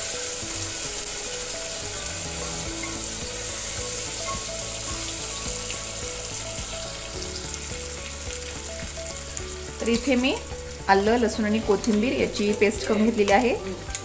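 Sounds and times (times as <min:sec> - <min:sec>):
onion and tomato sizzling in oil: 0:00.0 - 0:14.0.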